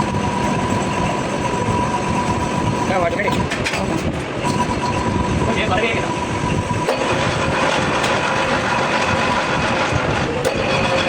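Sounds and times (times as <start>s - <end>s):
workshop machine clattering: 0.0s - 11.0s.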